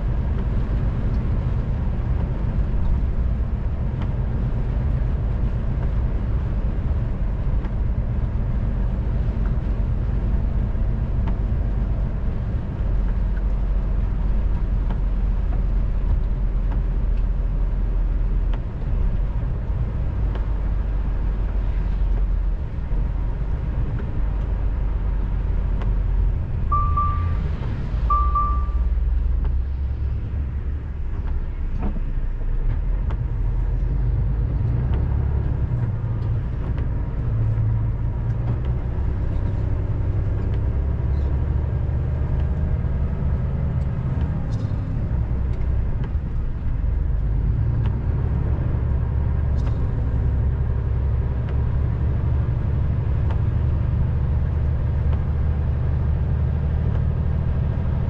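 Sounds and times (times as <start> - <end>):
truck engine and tyres droning: 0.0 - 58.0.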